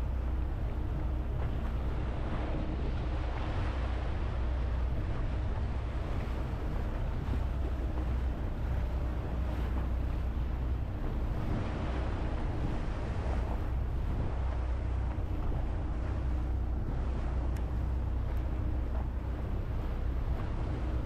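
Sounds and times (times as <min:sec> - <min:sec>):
boat engine humming: 0:00.0 - 0:21.0
water rushing along hull: 0:00.0 - 0:21.0
wind buffeting microphone: 0:00.0 - 0:21.0.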